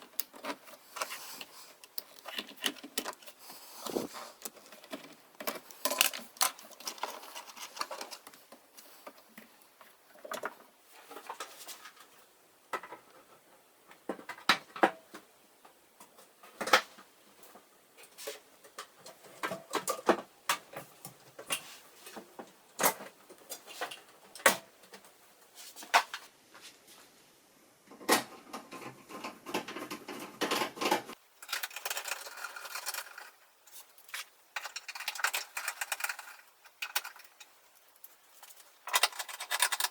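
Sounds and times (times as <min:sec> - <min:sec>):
rustling and scraping: 0:00.0 - 0:12.3, 0:16.1 - 0:27.2, 0:28.6 - 0:39.9
clicks and knocks of parts and tools: 0:00.0 - 0:25.2, 0:27.9 - 0:39.9.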